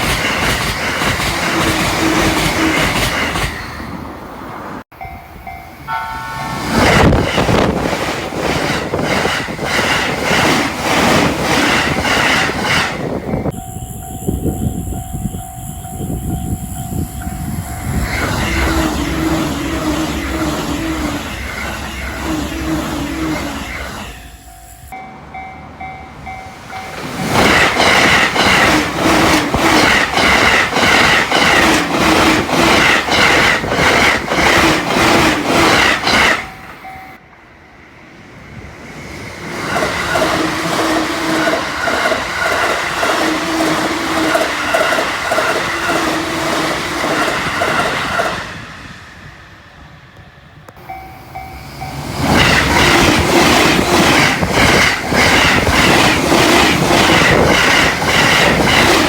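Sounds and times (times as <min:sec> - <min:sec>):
electric trains passing at high speed: 0:00.0 - 0:59.0.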